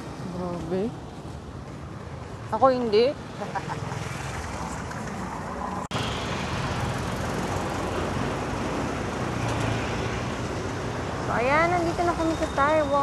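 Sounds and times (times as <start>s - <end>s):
street noise with low rumble: 0.0s - 13.0s.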